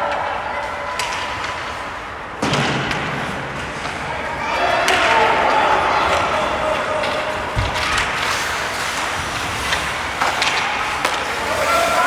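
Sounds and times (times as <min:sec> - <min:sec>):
hockey sticks and puck clacking: 0:00.0 - 0:12.0
skate blades scraping ice: 0:00.5 - 0:12.0.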